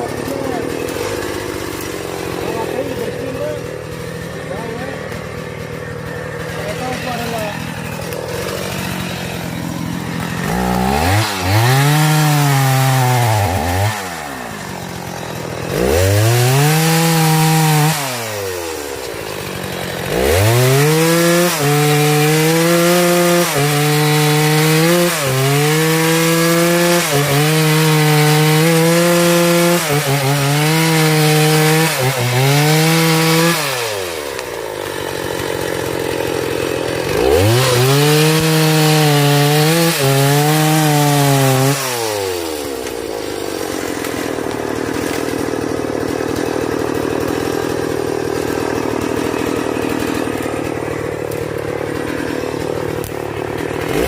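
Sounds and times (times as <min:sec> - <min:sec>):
chainsaw cutting into tree: 0:00.0 - 0:54.0.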